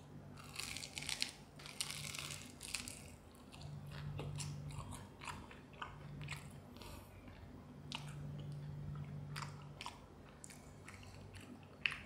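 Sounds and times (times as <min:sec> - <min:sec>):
crunching pastry while chewing: 0:00.0 - 0:12.0.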